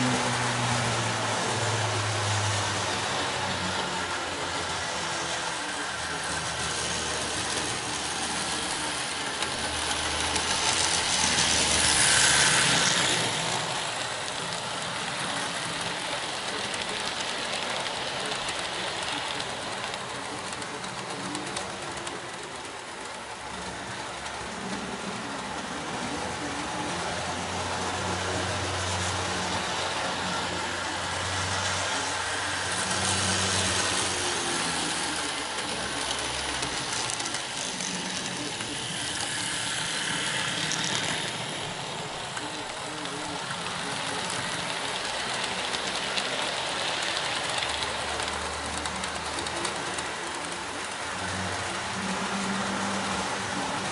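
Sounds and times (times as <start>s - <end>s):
model train motor and wheels: 0.0s - 53.9s.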